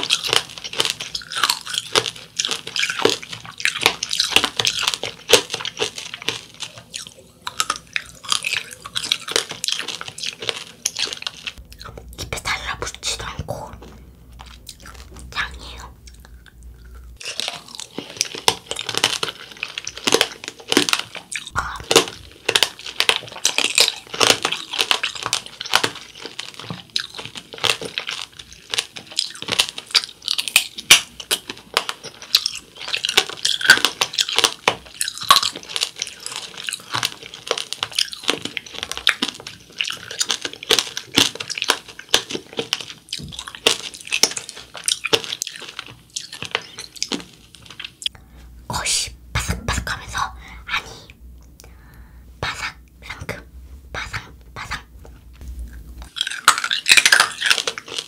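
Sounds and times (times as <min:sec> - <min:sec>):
wet chewing: 0:00.0 - 0:48.2, 0:49.8 - 0:58.0
candy shell crunching: 0:00.0 - 0:49.0, 0:52.4 - 0:58.0.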